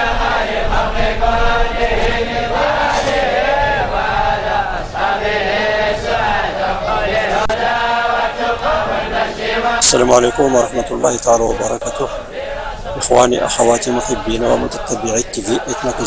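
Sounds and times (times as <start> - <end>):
voices chanting: 0.0 - 16.0.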